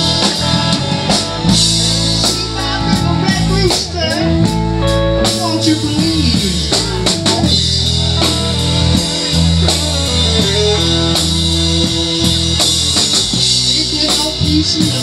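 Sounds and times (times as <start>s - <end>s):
blues band playing: 0.0s - 15.0s
electric guitar lead with bent notes: 0.0s - 15.0s.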